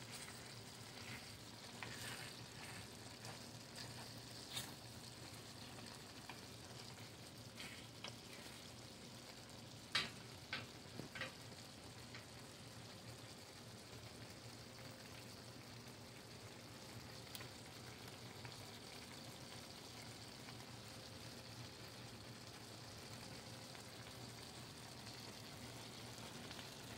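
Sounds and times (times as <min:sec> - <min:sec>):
food sizzling in a pan: 0:00.0 - 0:26.9.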